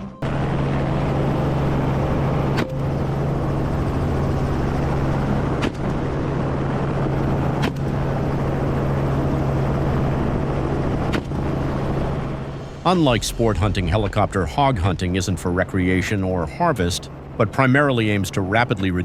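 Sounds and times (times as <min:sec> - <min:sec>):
rushing noise: 0:00.0 - 0:16.5
helicopter engine and rotor drone: 0:00.0 - 0:19.0.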